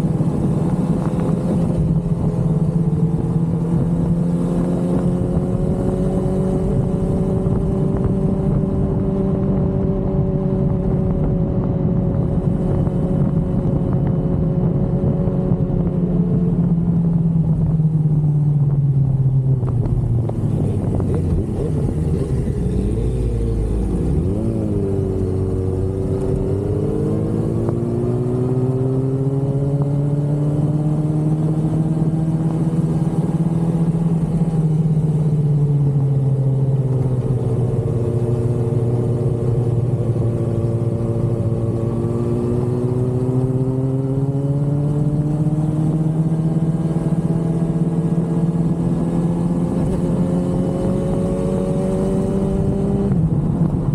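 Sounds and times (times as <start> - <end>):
motorcycle engine cruising: 0.0 - 53.9
wind and road rumble: 0.0 - 53.9.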